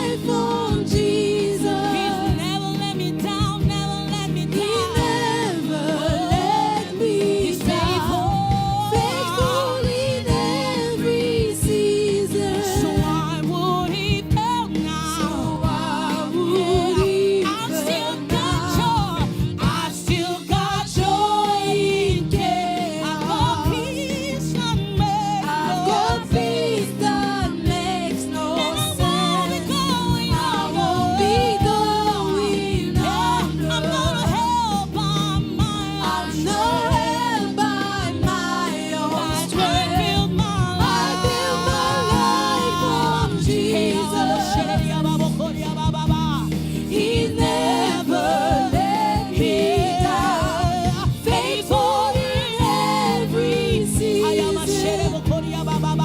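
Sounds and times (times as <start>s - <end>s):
gospel choir singing: 0.0s - 56.0s
instrumental accompaniment: 0.0s - 56.0s.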